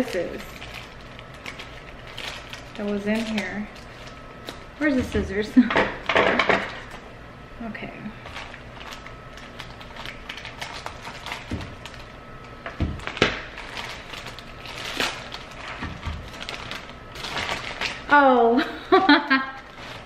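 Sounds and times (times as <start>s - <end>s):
bag crinkling and rustling: 0.0s - 5.4s, 8.2s - 18.3s, 19.5s - 20.0s.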